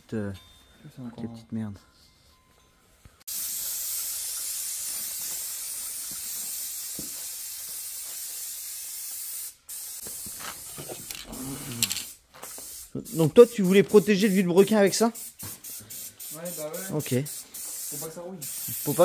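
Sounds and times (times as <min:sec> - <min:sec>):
aerosol spray can hissing: 0:03.3 - 0:19.0.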